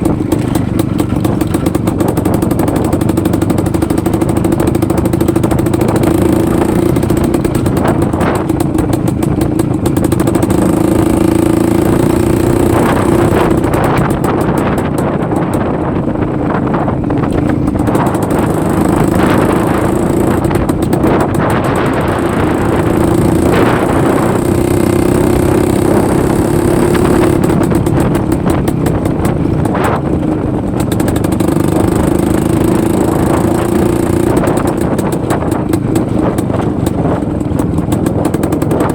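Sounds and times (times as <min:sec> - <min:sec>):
motorcycle two-stroke engine running: 0:00.0 - 0:38.9.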